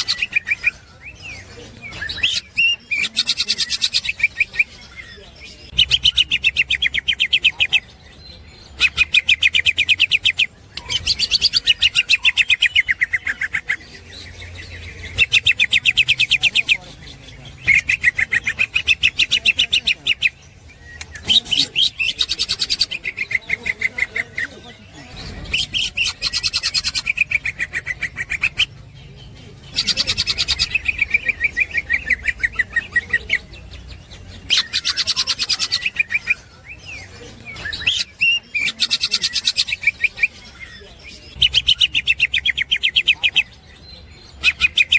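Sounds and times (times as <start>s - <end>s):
bird singing rapid chattering: 0.0s - 44.9s.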